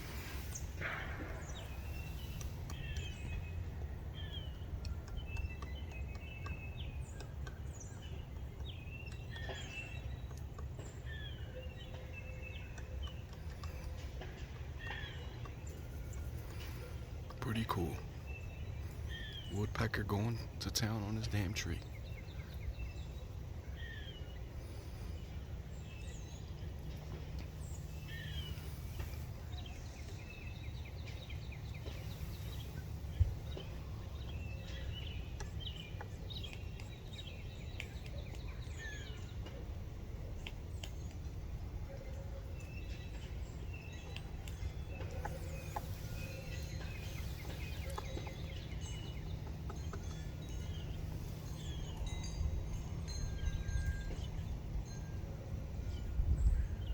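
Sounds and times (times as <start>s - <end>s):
woodpecker pecking at tree: 0.0s - 21.3s, 26.5s - 52.0s
birds chirping and calling: 0.0s - 56.9s
low outdoor rumble: 0.0s - 56.9s.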